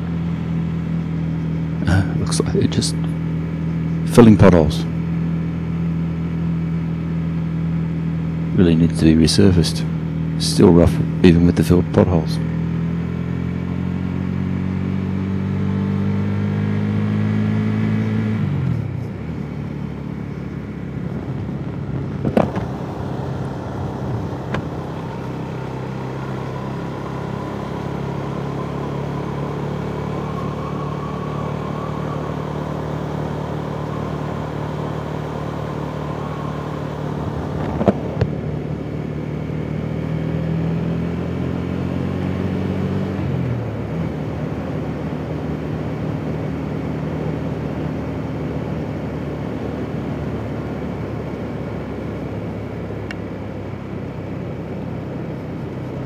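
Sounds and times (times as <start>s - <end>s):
motorcycle engine revving: 9.8s - 56.0s.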